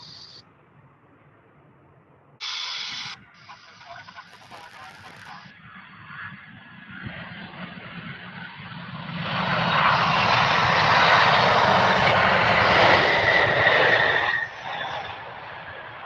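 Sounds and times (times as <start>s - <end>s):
airliner engines at takeoff: 0.0s - 16.0s.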